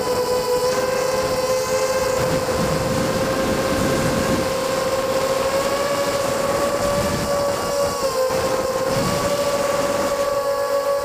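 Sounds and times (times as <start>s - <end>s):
drone motors whining: 0.0s - 11.0s
rushing wind hiss: 0.0s - 11.0s.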